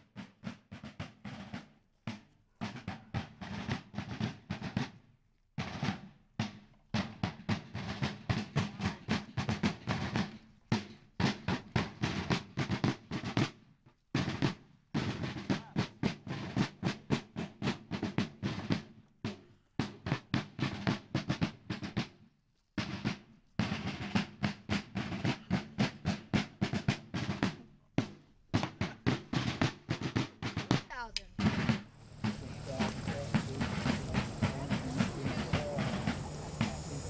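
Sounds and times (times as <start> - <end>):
marching snare and bass drums: 0.0 - 37.0.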